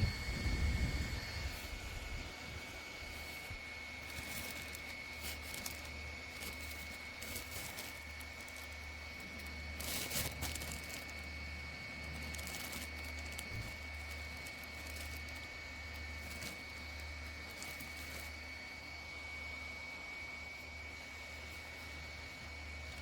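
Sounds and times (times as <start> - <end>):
small fan whine and hum: 0.0 - 23.0.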